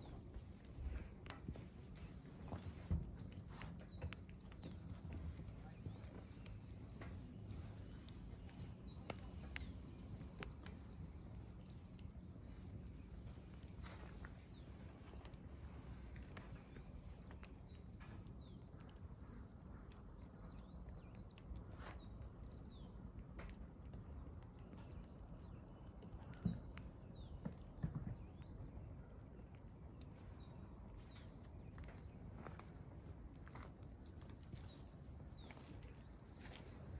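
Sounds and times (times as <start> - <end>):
small birds chirping: 0.0 - 36.9
wood fire crackling: 0.0 - 36.9.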